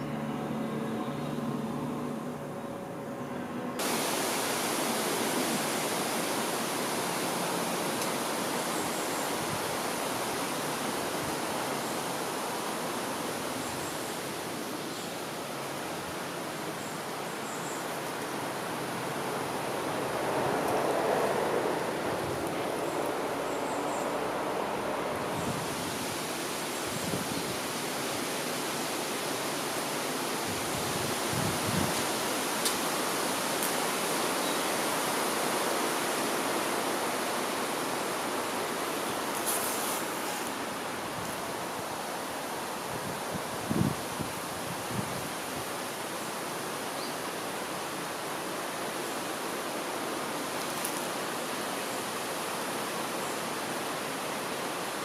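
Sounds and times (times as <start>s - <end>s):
wind rustling tree leaves: 0.0s - 55.0s.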